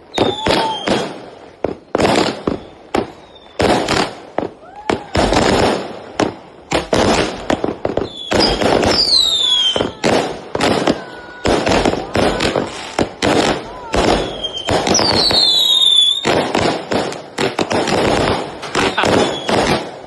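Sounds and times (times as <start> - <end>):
fireworks bangs and crackle: 0.0 - 20.0
whistling firework shells: 0.0 - 20.0.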